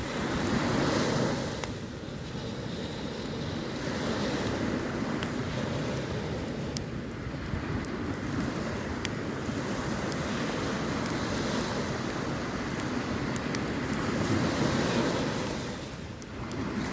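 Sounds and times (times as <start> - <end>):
campfire crackling: 0.0 - 16.9.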